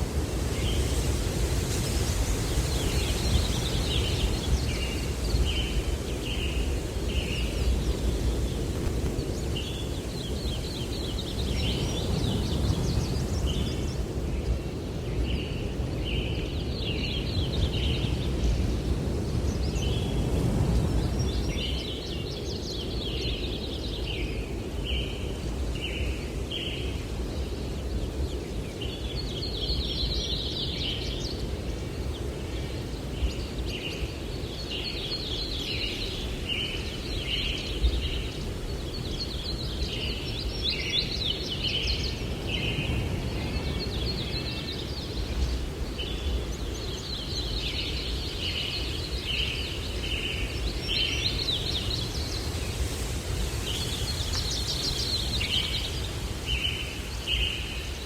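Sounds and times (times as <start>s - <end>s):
breeze through trees: 0.0s - 58.0s
songbirds chirping: 0.0s - 58.0s.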